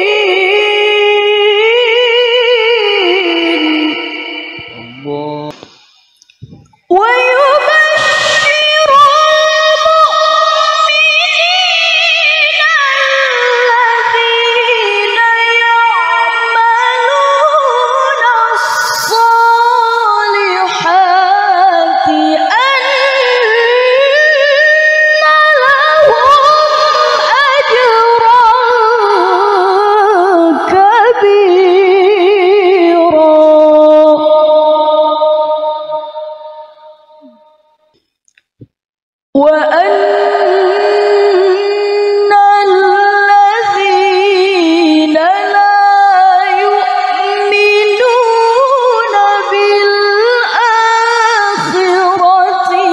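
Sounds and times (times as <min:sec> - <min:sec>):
woman reciting melodically: 0:00.0 - 0:04.8, 0:06.4 - 0:36.4, 0:39.4 - 0:52.9.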